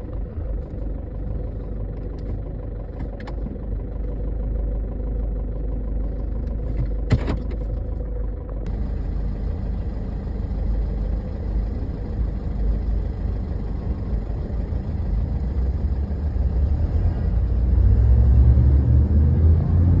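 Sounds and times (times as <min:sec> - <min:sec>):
car engine running rough: 0:00.0 - 0:20.0.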